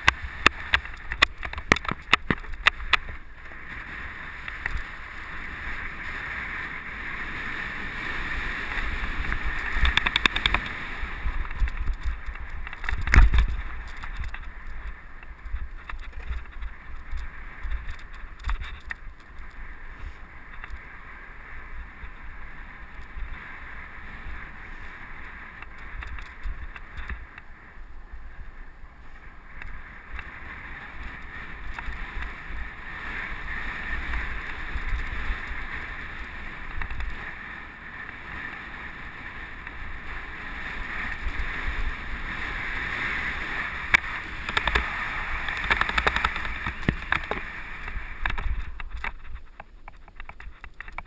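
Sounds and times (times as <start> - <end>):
bike hard jolt: 0.0 - 27.4, 29.1 - 51.0
bike rattling over rough ground: 0.0 - 51.0
bike tyres rolling over dirt: 0.0 - 51.0
wind on microphone: 0.0 - 51.0.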